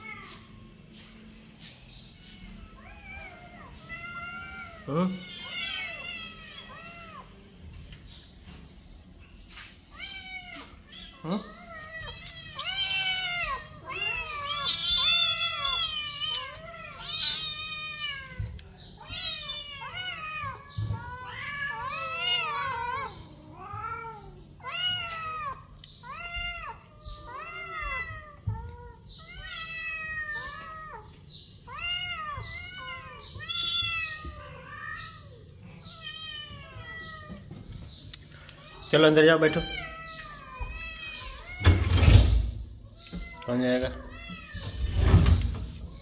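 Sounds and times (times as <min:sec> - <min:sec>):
kittens meowing: 0:01.9 - 0:08.3, 0:09.9 - 0:46.0.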